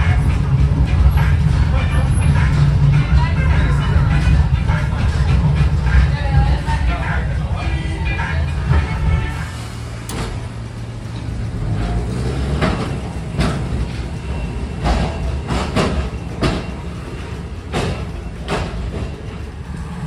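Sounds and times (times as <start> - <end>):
streetcar rumble: 0.0 - 20.0.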